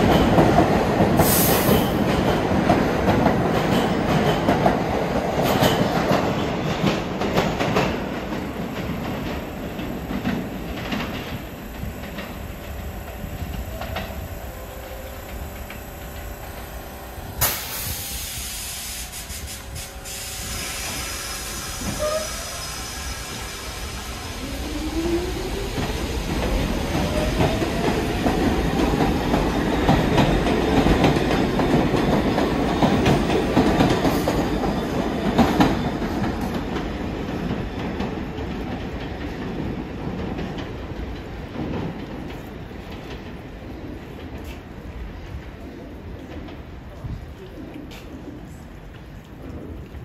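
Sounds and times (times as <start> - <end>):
train wheels clacking on rails: 0.0 - 16.7, 17.3 - 44.6
subway train motors whining: 0.0 - 49.0.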